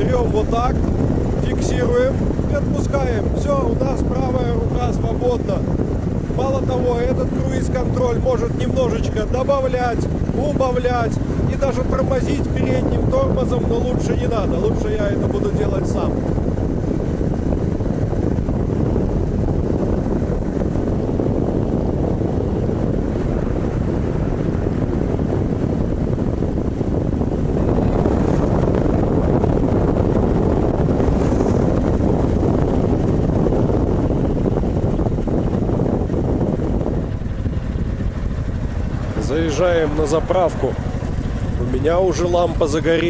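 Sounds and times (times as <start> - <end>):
motorcycle engine at speed: 0.0 - 43.0
wind rushing over microphone: 0.0 - 43.0.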